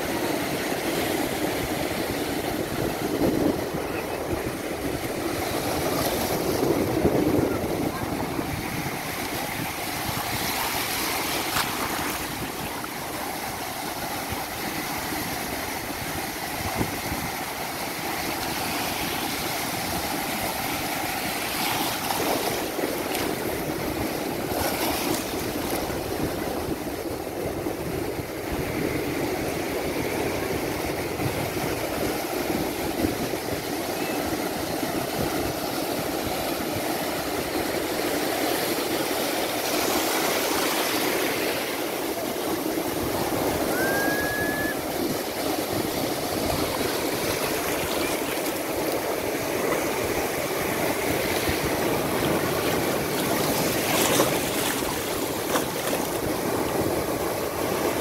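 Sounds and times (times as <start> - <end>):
surf washing over rocks: 0.0 - 58.0.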